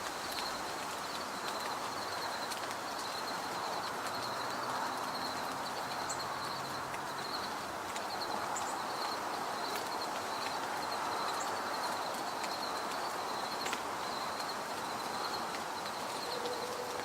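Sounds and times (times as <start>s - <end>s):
steady rushing hiss: 0.0s - 17.0s
small birds chipping: 0.2s - 16.7s.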